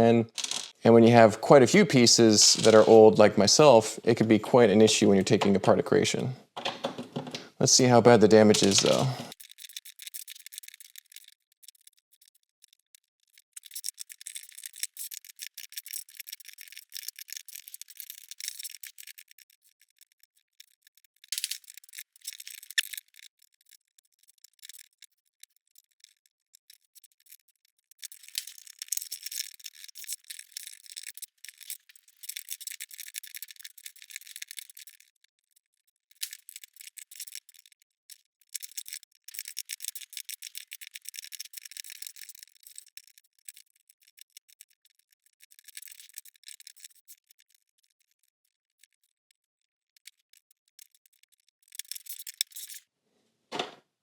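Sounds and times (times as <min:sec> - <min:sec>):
plastic pieces clicking and rattling: 0:00.3 - 0:00.9, 0:01.7 - 0:03.4, 0:06.6 - 0:52.8.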